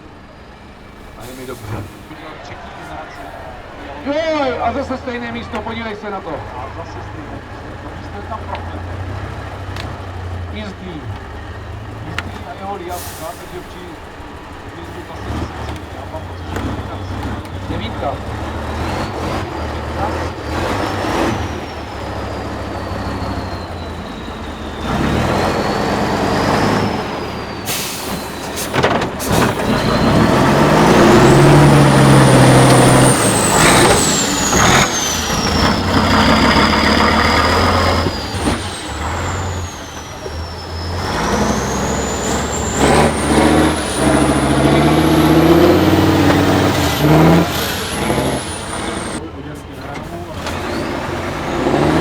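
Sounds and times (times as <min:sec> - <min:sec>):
diesel truck engine revving: 0:00.0 - 0:52.0.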